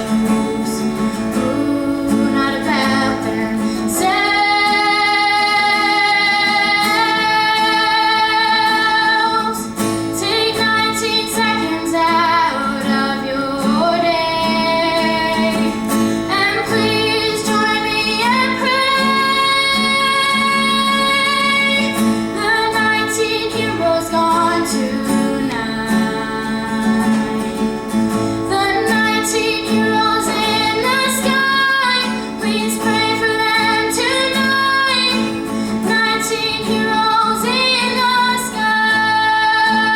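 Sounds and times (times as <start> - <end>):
girl singing slow song: 0.0 - 39.9
plucked guitar: 0.0 - 39.9.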